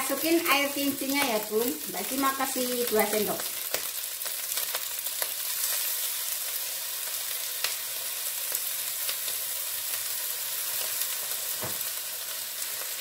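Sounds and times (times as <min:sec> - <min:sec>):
rice sizzling in a wok: 0:00.0 - 0:13.0.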